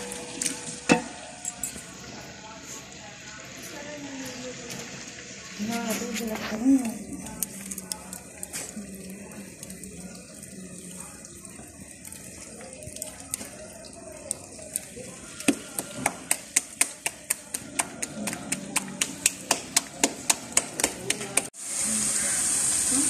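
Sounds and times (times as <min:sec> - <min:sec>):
onions crackling in a pot: 0:00.0 - 0:23.0.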